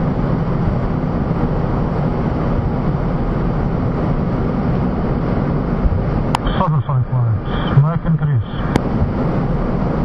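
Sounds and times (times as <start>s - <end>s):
airflow inside cockpit: 0.0s - 10.0s
jet engines rumbling: 0.0s - 10.0s.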